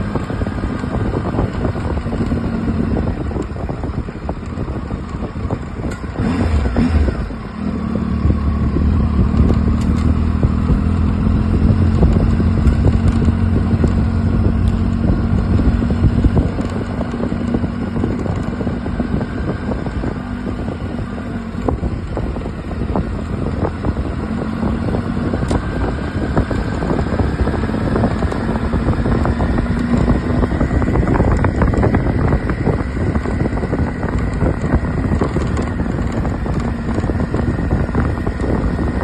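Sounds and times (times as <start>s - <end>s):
motorcycle engine running: 0.0s - 39.0s
wind noise on microphone: 0.0s - 39.0s.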